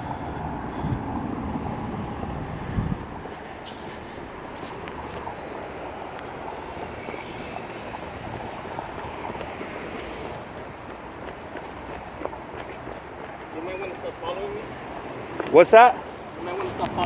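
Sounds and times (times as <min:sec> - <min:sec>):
low traffic hum: 0:00.0 - 0:17.0.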